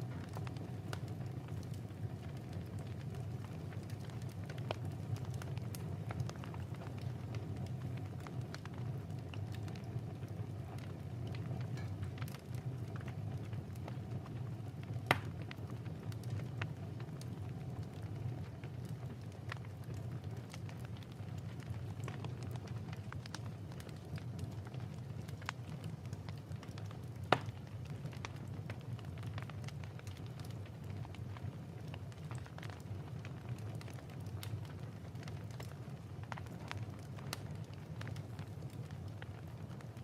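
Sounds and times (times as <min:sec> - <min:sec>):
fireplace fire crackling and popping: 0:00.0 - 0:40.0.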